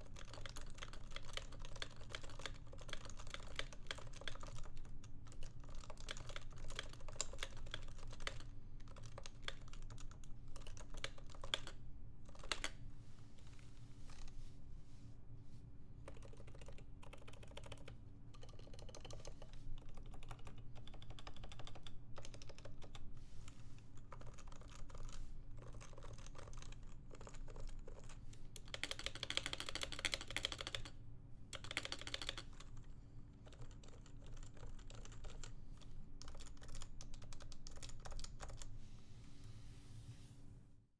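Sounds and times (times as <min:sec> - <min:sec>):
steady low hum: 0:00.0 - 0:40.8.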